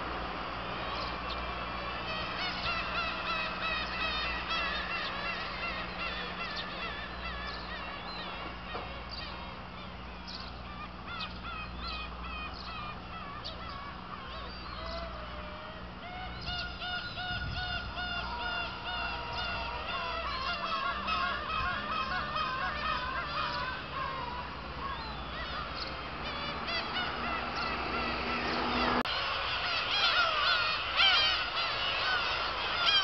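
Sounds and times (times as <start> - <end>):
gulls calling: 0.0 - 33.0.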